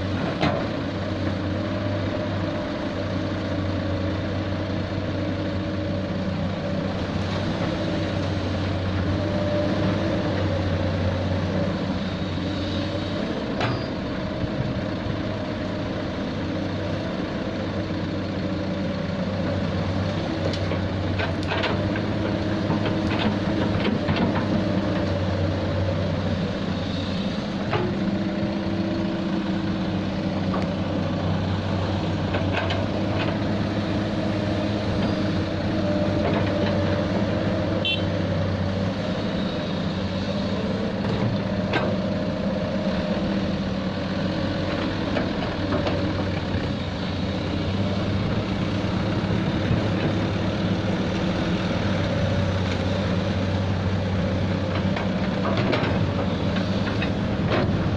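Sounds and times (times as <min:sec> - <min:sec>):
excavator diesel engine working: 0:00.0 - 0:57.9.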